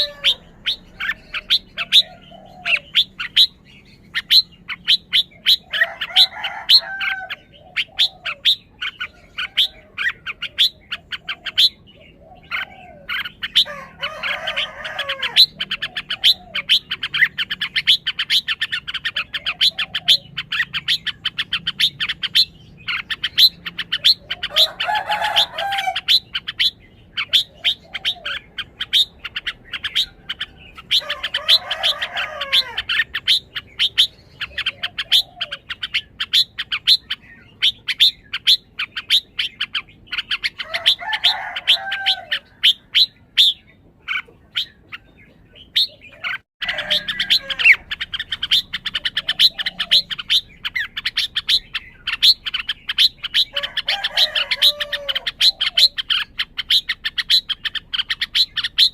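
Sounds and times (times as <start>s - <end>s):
bird chirping: 0.0s - 58.9s
bird warbled song phrase: 0.0s - 58.9s.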